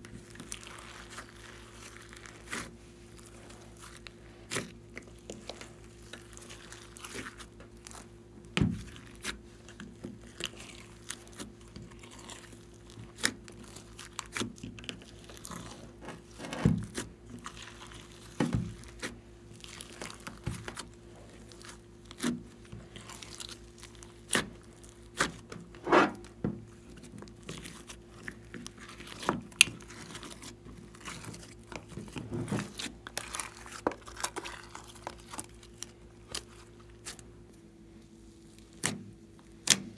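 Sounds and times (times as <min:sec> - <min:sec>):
hands kneading sticky slime: 0:00.0 - 0:39.9.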